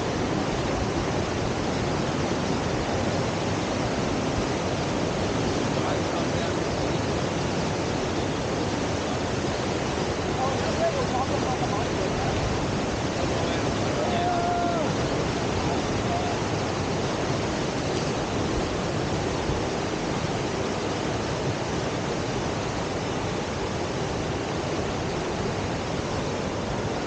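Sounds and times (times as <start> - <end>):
whitewater rushing: 0.0 - 27.0.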